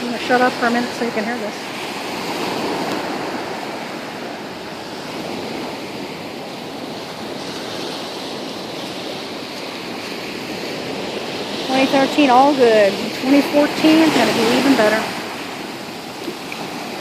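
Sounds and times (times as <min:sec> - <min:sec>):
ocean waves crashing on shore: 0:00.0 - 0:17.0.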